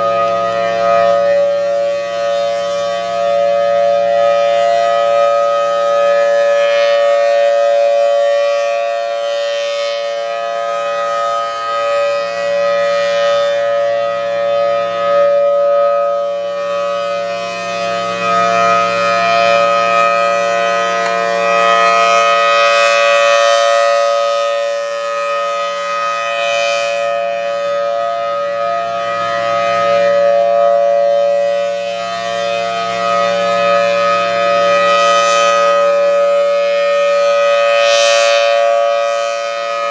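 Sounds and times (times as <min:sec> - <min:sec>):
dual-tone warning siren: 0:00.0 - 0:39.9.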